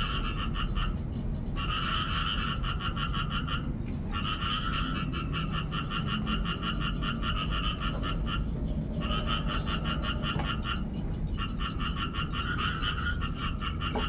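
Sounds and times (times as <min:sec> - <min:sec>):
frog calling in rapid pulses: 0:00.0 - 0:14.0.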